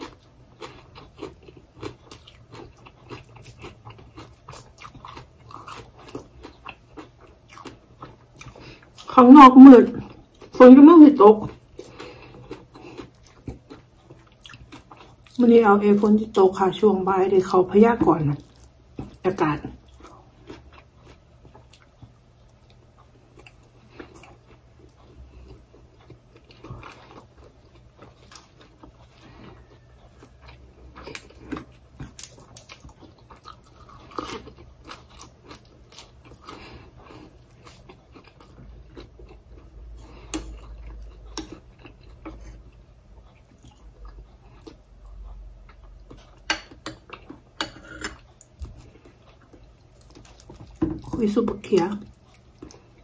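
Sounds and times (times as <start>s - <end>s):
person chewing: 0.0s - 9.1s, 11.3s - 16.1s, 18.4s - 53.0s.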